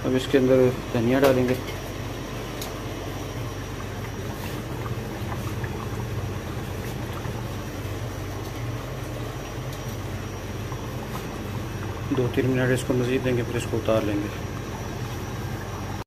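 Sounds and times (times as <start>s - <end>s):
pot simmering hiss: 0.0s - 16.0s
low hum: 1.6s - 16.0s.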